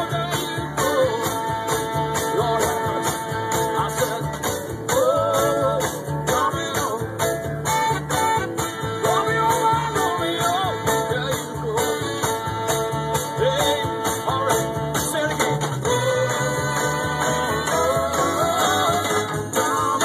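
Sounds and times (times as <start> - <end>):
song with steady beat and bass: 0.0 - 20.0.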